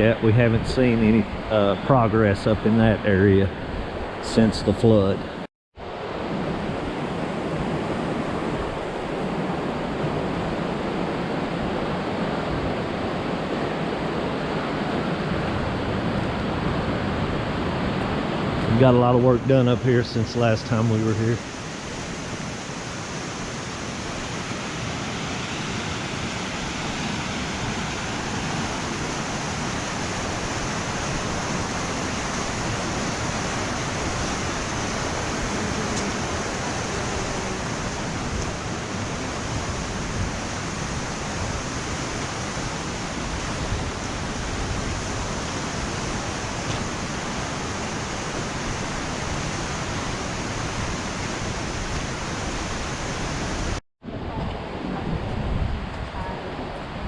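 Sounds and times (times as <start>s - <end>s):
creek rushing: 0.0s - 57.0s.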